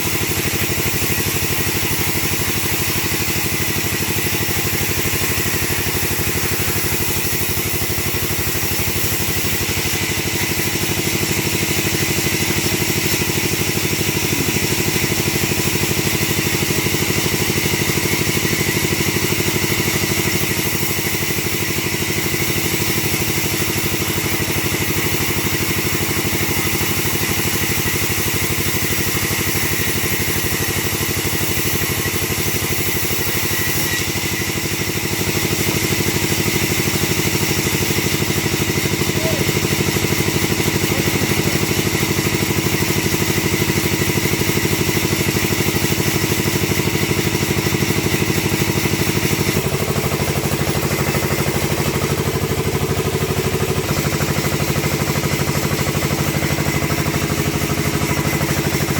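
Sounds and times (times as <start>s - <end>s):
wood splitter engine running: 0.0s - 58.9s.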